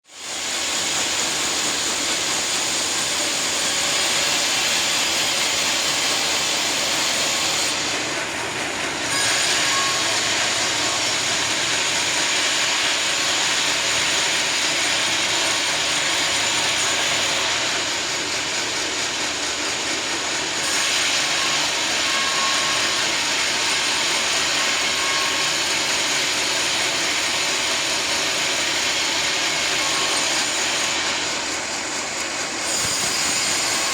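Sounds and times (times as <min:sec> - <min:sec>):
sawmill saw cutting log: 0:00.1 - 0:33.9.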